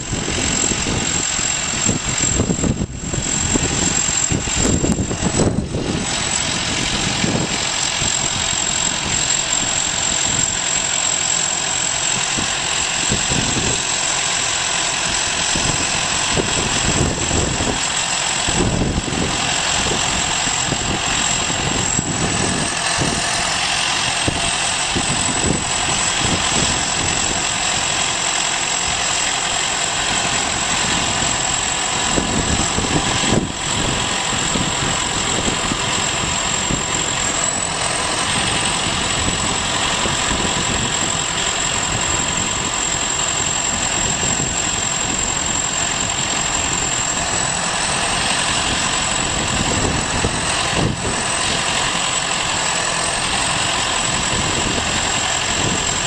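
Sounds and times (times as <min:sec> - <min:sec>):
diesel engine running: 0:00.0 - 0:56.0
high-pitched whine: 0:00.0 - 0:56.0.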